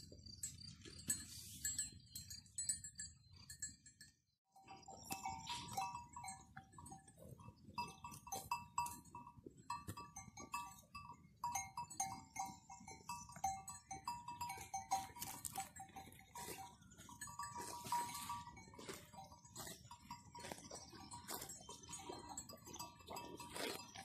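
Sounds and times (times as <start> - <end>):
small metal bells clinking: 0.0 - 24.0.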